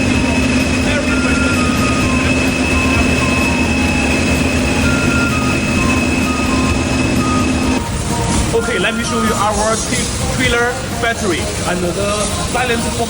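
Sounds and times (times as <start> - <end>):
diesel generator engine drone: 0.0 - 13.0
steady high whine: 0.0 - 13.0.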